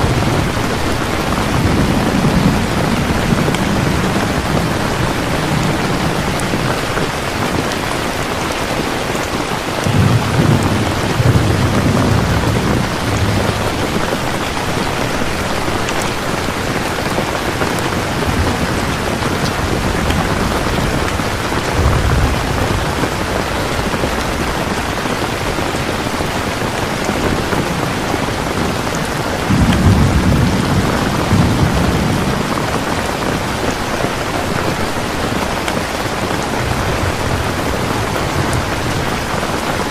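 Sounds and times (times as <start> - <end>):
distant thunder rumbles: 0.0 - 8.2, 9.2 - 39.9
steady rain hiss: 0.0 - 39.9.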